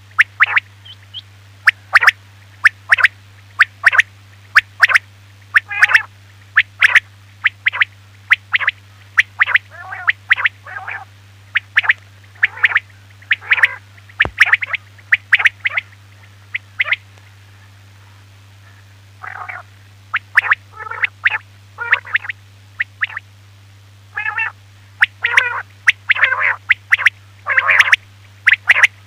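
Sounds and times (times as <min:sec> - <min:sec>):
quail calling: 0:00.0 - 0:23.2, 0:24.1 - 0:29.0.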